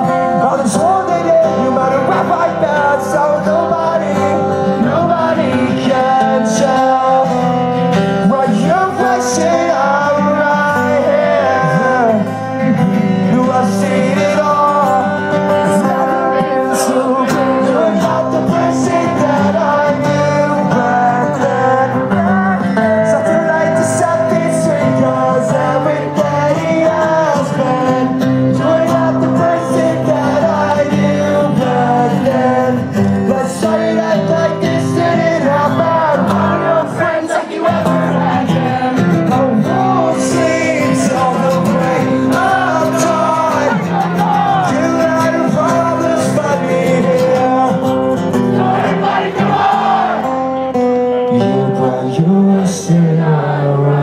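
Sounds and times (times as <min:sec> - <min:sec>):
man singing lead vocal: 0:00.0 - 0:54.0
strummed acoustic guitars: 0:00.0 - 0:54.0.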